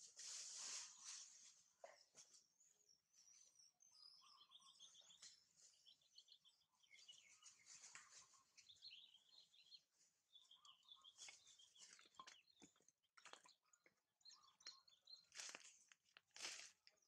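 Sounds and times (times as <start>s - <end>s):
bird chirps and trills: 0.7s - 15.8s.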